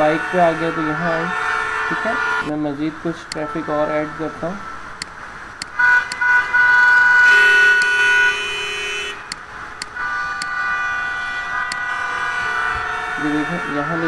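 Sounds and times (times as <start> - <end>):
low buzzy horn: 0.0 - 4.7, 5.8 - 9.4, 10.0 - 14.0
vehicle horn honks: 0.0 - 4.7, 5.8 - 14.0.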